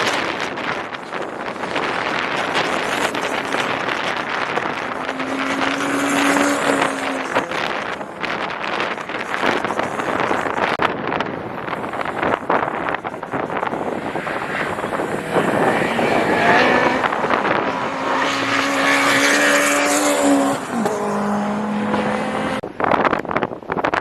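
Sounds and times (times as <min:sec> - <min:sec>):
race car passing at speed: 0:00.0 - 0:10.8, 0:11.6 - 0:22.6
wind noise on microphone: 0:00.0 - 0:24.0.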